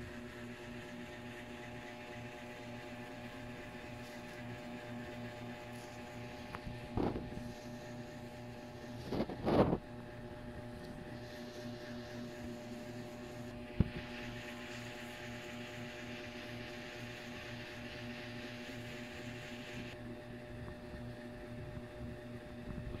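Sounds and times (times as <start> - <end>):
low hum with overtones: 0.0 - 23.0.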